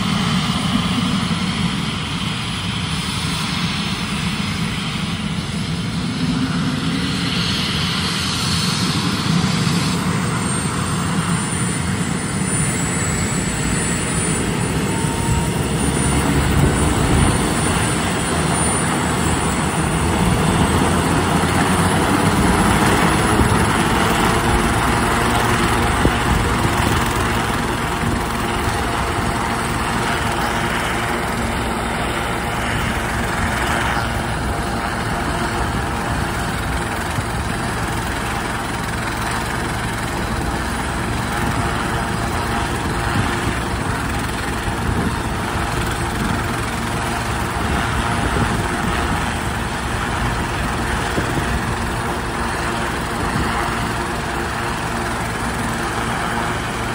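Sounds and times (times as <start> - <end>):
helicopter idling: 0.0 - 56.9.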